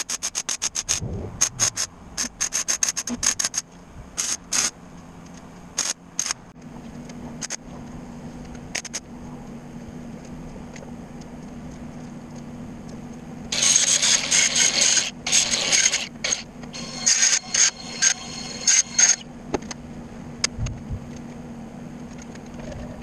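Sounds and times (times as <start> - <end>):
steady low hum: 0.6 - 13.6, 15.1 - 23.0.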